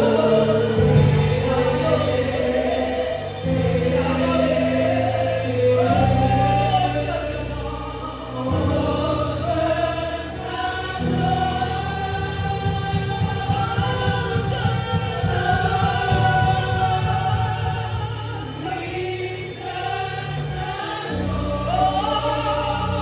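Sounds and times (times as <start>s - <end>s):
choir singing gospel music: 0.0s - 23.0s
held low chords: 0.0s - 23.0s.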